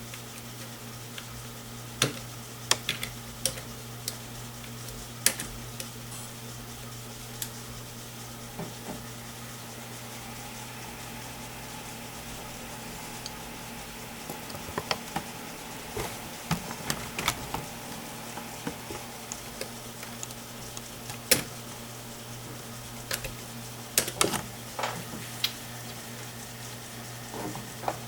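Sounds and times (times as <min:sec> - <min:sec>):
desktop computer hum: 0:00.0 - 0:28.0.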